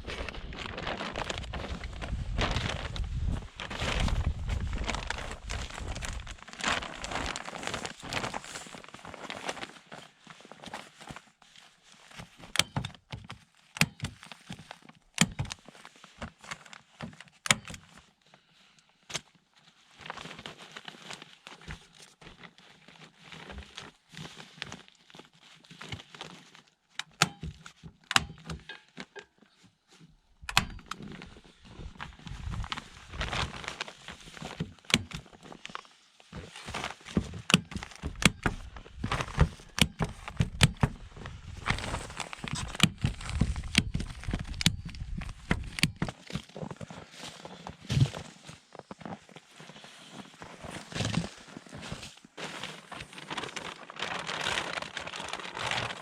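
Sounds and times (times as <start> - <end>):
rustling and crunching: 0.0 - 18.5, 19.2 - 56.0.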